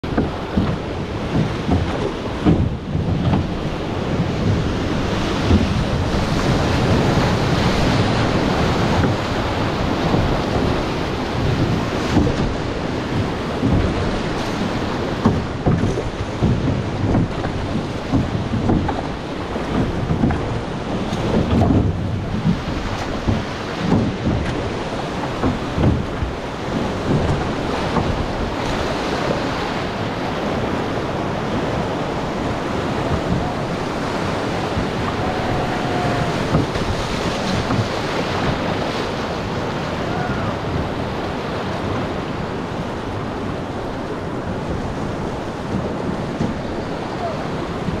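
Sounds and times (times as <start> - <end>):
rushing whitewater: 0.0 - 48.0
wind buffeting microphone: 0.0 - 48.0.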